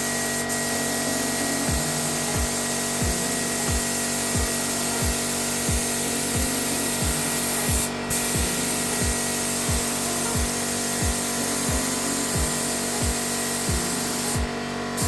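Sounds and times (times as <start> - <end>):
paint spray gun hissing: 0.0 - 15.0
background music with thudding beat: 1.0 - 14.6.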